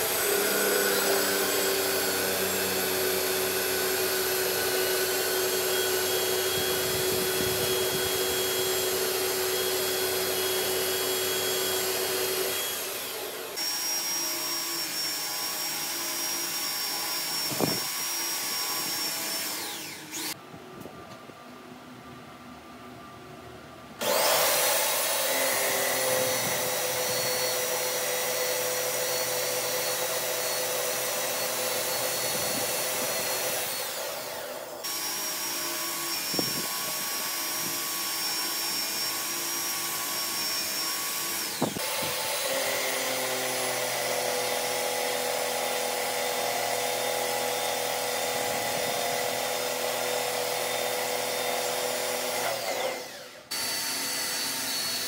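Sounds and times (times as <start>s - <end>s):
milling machine spindle whining: 0.0s - 20.4s, 24.0s - 55.0s.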